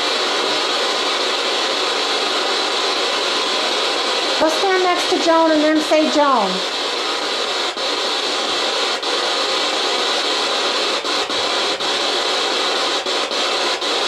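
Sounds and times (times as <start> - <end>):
loud static hiss: 0.0 - 14.0.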